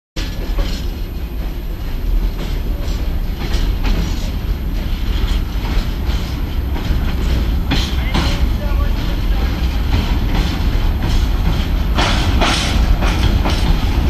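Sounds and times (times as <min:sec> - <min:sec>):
freight train rumbling: 0:00.2 - 0:14.0
wheels clacking over rail joints: 0:00.2 - 0:14.0.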